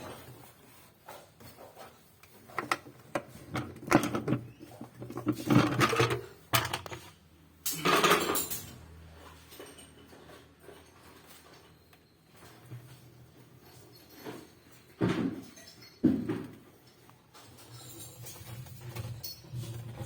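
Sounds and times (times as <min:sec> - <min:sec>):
metal parts and tools clattering: 0:02.3 - 0:11.8, 0:12.4 - 0:20.0.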